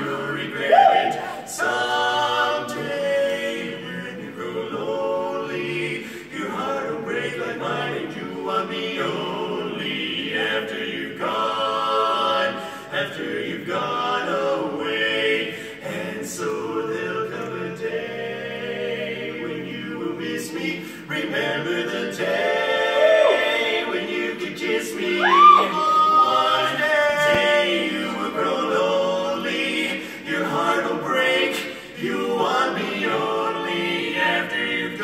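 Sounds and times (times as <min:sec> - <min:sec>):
male quartet singing a cappella: 0:00.0 - 0:35.0.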